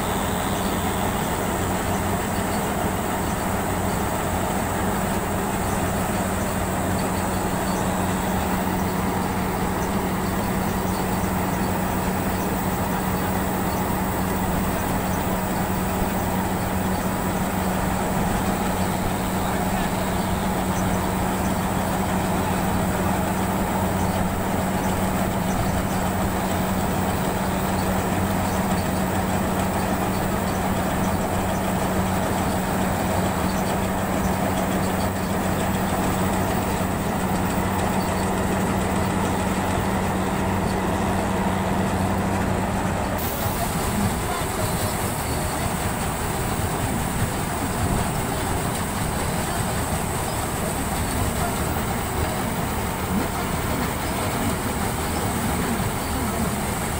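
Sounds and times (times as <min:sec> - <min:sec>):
combine harvester running: 0:00.0 - 0:56.9
grain auger discharging: 0:00.0 - 0:56.9.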